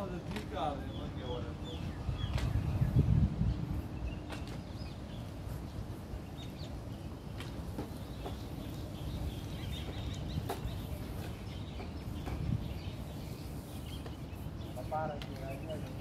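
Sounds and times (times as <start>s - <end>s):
steady low rumble: 0.6s - 13.7s.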